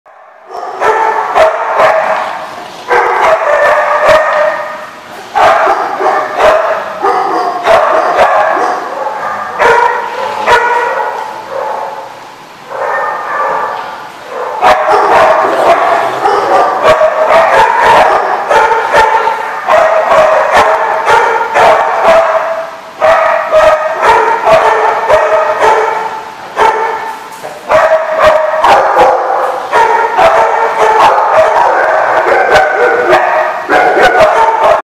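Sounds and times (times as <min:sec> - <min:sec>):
large dogs barking: 0:00.1 - 0:34.8.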